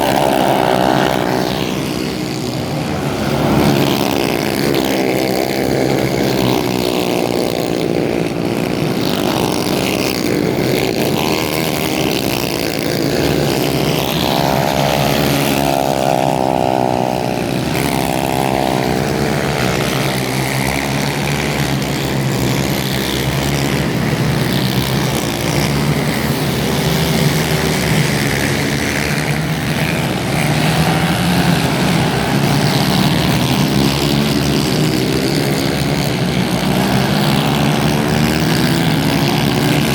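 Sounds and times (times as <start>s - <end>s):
kart engines running hard: 0.0s - 39.9s.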